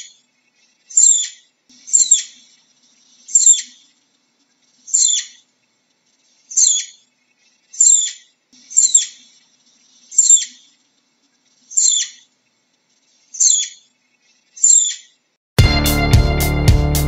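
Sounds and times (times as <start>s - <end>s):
flying squirrel chirping: 0.0s - 15.2s.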